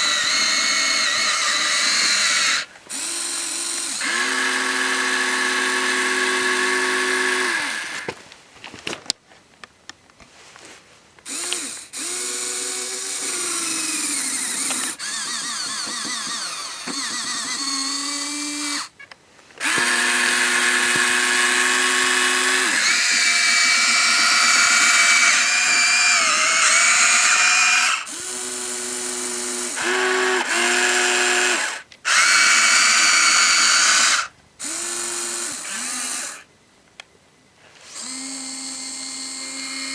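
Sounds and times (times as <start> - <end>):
small electric motors whining: 0.0 - 8.2, 11.3 - 19.0, 19.6 - 36.5, 37.8 - 39.9.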